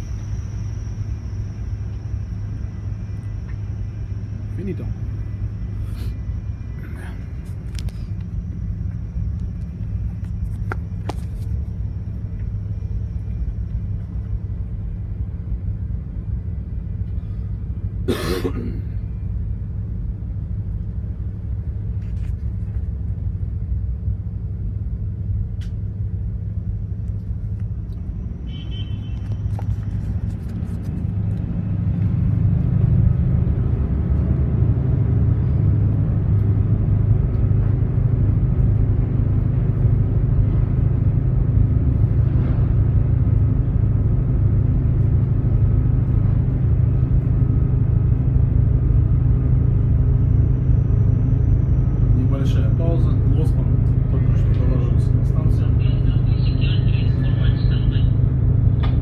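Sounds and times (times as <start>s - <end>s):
ship engine machinery humming: 0.0s - 59.0s.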